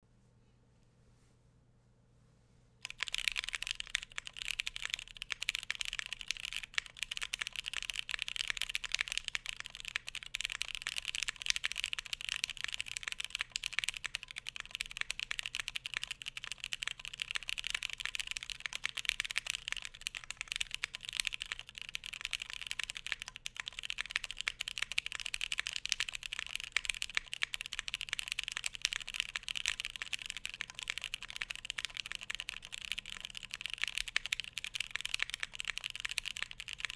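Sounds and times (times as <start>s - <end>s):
keyboard typing: 2.8s - 36.9s.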